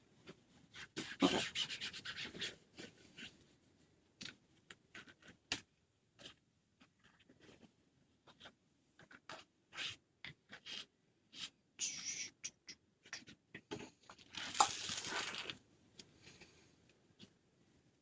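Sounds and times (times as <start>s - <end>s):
hands rubbing and scratching materials: 0.1s - 17.4s.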